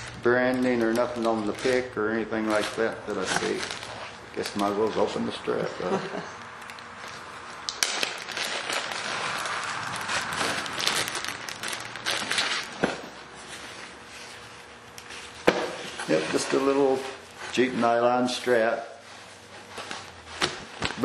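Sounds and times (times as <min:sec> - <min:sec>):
plastic bag crinkling and rustling: 0:00.0 - 0:05.7, 0:06.7 - 0:21.0.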